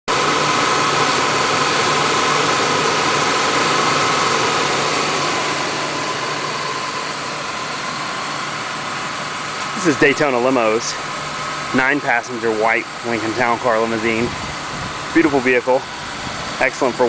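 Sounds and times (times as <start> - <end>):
car engine idling: 0.1 - 17.0
faint engine whine: 0.1 - 17.0.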